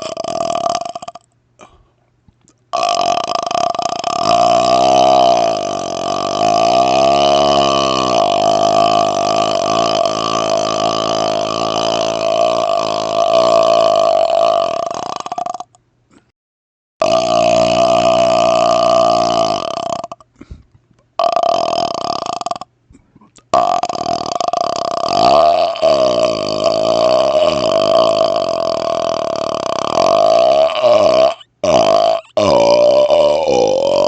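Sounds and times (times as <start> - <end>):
man burping: 0.0 - 1.8, 2.7 - 16.3, 17.0 - 20.6, 21.2 - 34.0.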